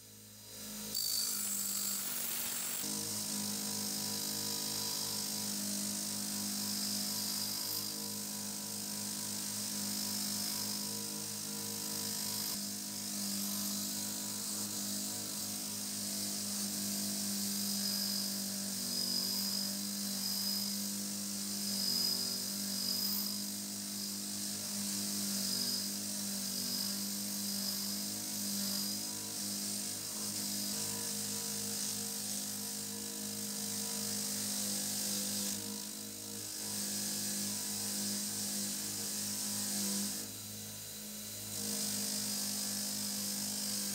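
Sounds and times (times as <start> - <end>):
bench grinder motor hum: 0.0 - 43.9.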